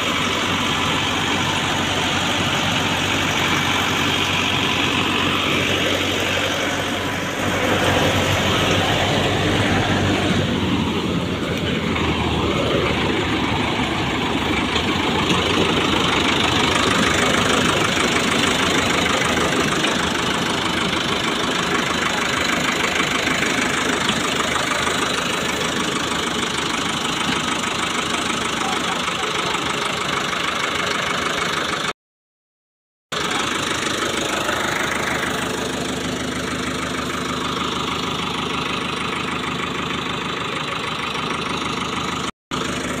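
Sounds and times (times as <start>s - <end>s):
threshing machinery running: 0.0s - 31.8s, 33.1s - 43.0s
tractor diesel engine under load: 0.0s - 32.0s, 33.1s - 43.0s.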